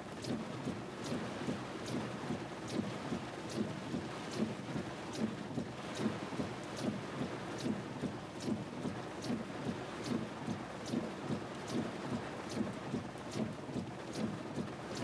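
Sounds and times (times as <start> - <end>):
heavy rain on a car: 0.0 - 15.0
windshield wipers thumping and swishing: 0.1 - 15.0.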